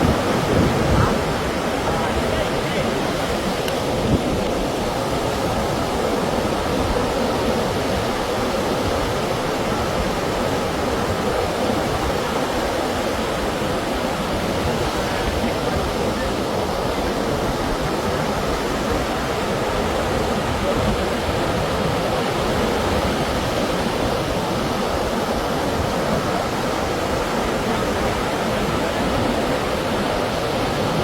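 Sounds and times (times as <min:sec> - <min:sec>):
sea surf breaking: 0:00.0 - 0:31.0.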